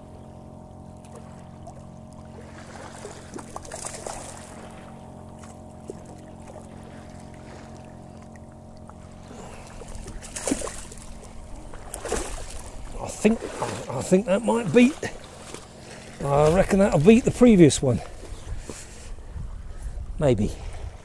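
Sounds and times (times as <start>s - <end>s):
steady low drone: 0.0s - 21.0s
fish splashing in shallow water: 0.2s - 19.2s.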